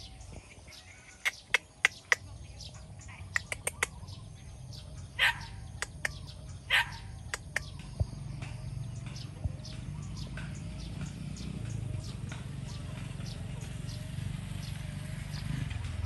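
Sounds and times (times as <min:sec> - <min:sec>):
birds chirping: 0:00.0 - 0:16.0
harsh bird calls: 0:00.0 - 0:16.0.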